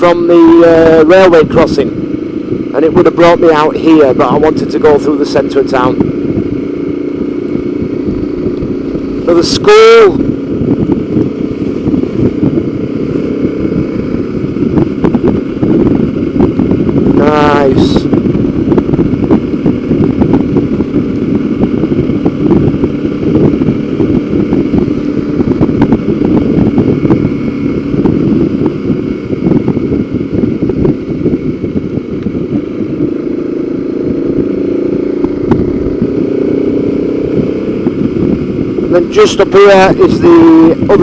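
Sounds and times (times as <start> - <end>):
wind rushing: 0.0 - 4.9, 5.6 - 41.0
motorcycle engine running: 0.0 - 41.0
road noise: 0.0 - 41.0.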